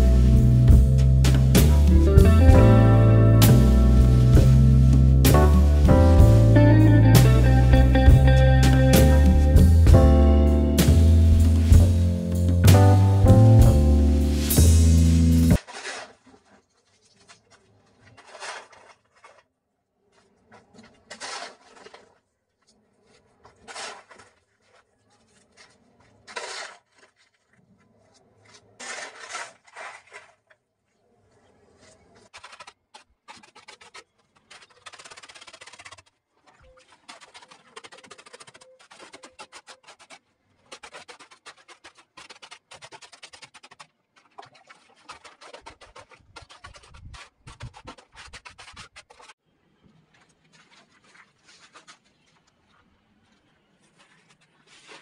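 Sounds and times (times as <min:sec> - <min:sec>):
hoe scraping soil on concrete: 0:00.0 - 0:09.7, 0:10.3 - 0:19.5, 0:20.1 - 0:30.6, 0:31.8 - 0:49.4, 0:50.4 - 0:52.5, 0:53.7 - 0:55.0.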